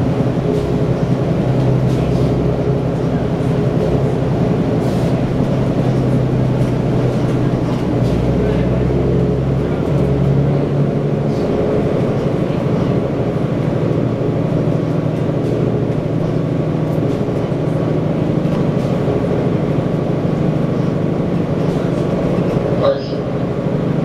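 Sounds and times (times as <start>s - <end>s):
road and body noise: 0.0s - 23.3s
bus diesel engine droning: 0.0s - 24.0s.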